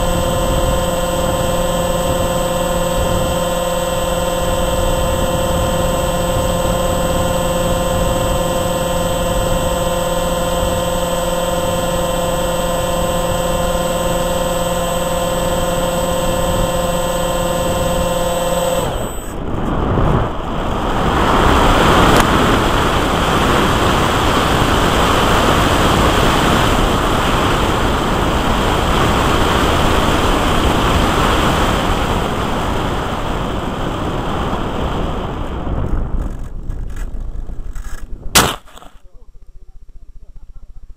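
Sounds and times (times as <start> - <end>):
model plane motor and propeller whine: 0.0 - 38.2
wind rush over microphone: 0.0 - 38.4.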